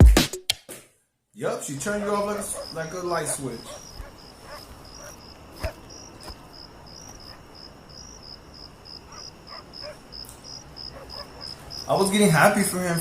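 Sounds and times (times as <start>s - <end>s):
cricket chirping: 1.4s - 13.0s.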